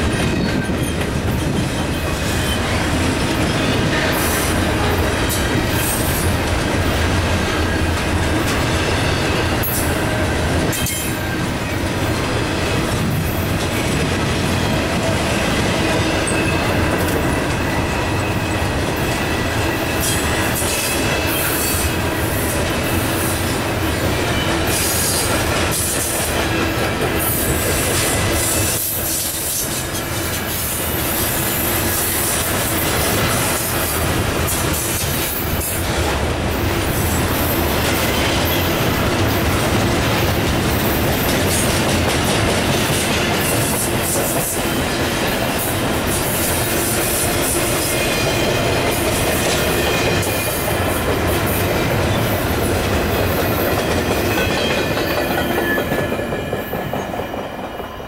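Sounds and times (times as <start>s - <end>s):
freight train wheels clattering on rail: 0.0s - 58.0s.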